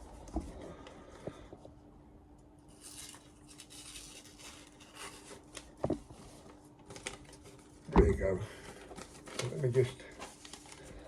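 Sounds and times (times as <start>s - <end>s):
rustling and scraping of handling: 0.0s - 11.0s
steady low hum: 0.0s - 11.0s.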